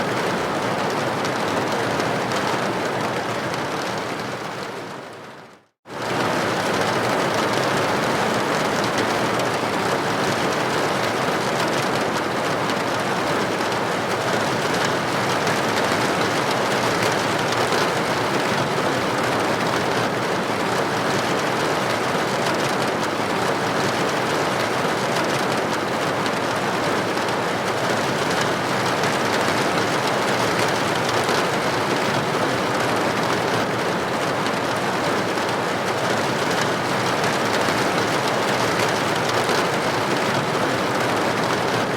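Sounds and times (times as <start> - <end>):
rain on a window: 0.0 - 41.9.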